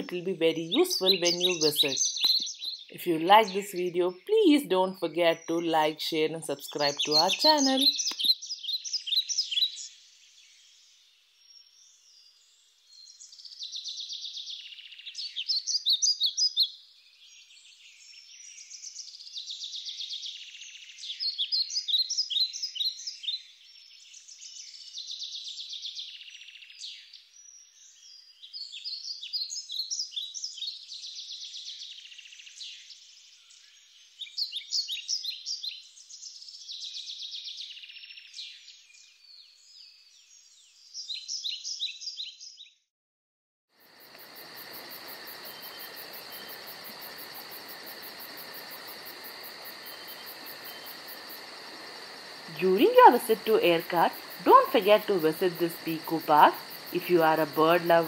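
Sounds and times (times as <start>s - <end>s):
birds chirping and twittering: 0.0s - 42.7s, 43.9s - 58.0s.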